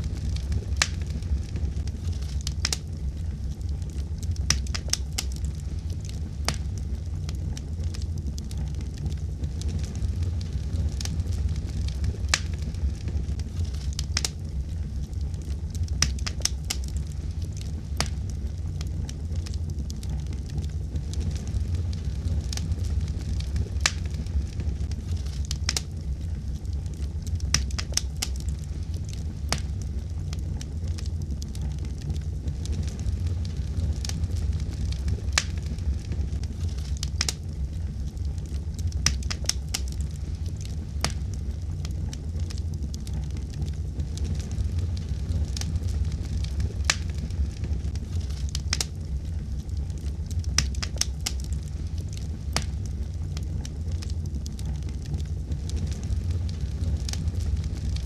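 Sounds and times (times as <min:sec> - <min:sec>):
low rumble of fire: 0:00.0 - 0:58.0
wood fire crackling: 0:00.0 - 0:58.0.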